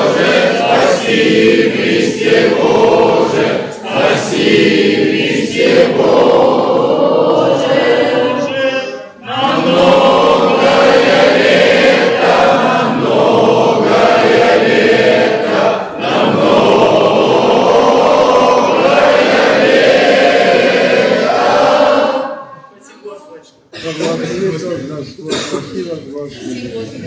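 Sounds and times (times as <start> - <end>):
group of voices chanting: 0.0 - 22.7.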